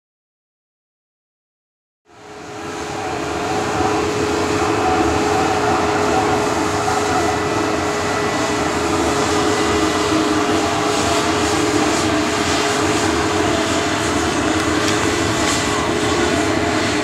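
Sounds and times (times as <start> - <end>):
jet engine whine: 2.1 - 17.0
jet engines droning: 2.1 - 17.0.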